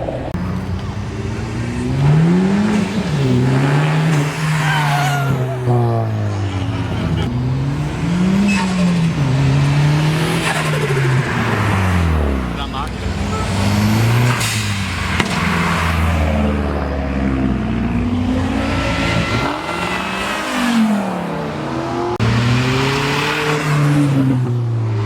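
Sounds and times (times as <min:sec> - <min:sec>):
car engines revving and accelerating: 0:00.0 - 0:25.0.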